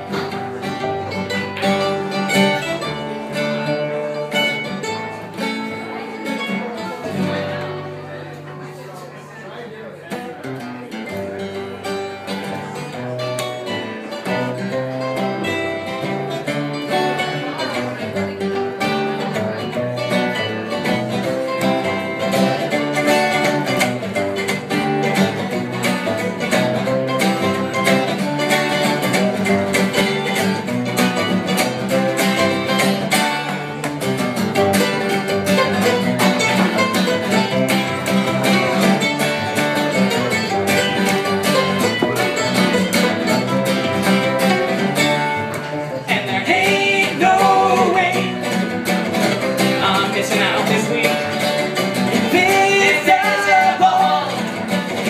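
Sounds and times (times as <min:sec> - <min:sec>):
double bass: 0:00.0 - 0:08.8, 0:11.0 - 0:55.0
acoustic guitar strummed: 0:00.0 - 0:55.0
mandolin picked quickly: 0:00.0 - 0:55.0.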